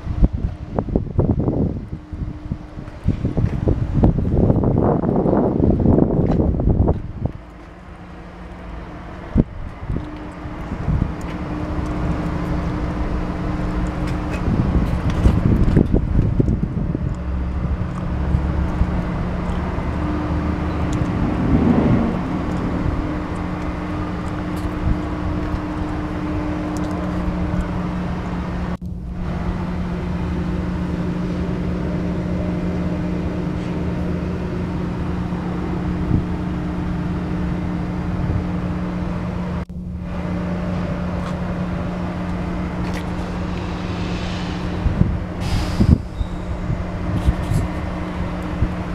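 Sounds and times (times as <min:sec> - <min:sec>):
diesel generator running: 0:00.0 - 0:48.9.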